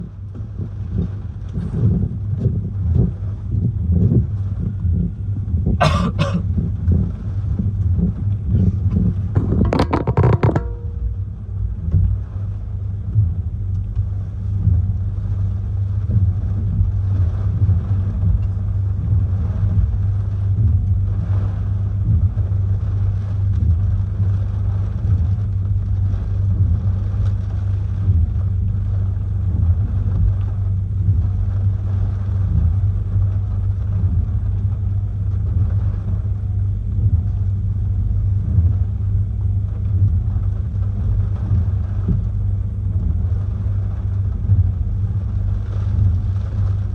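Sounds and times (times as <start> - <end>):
hurricane wind buffeting microphone: 0.0 - 46.9.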